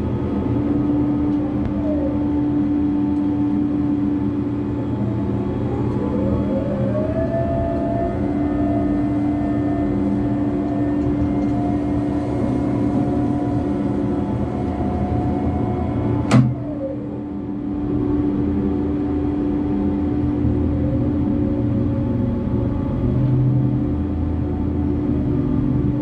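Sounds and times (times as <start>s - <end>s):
heavy diesel engine revving: 0.0s - 26.0s.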